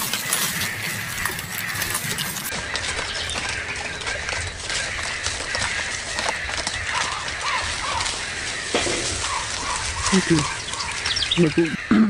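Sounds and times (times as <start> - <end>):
claws scratching tree bark: 0.0 - 11.4
raccoon kits chirping: 0.0 - 12.0.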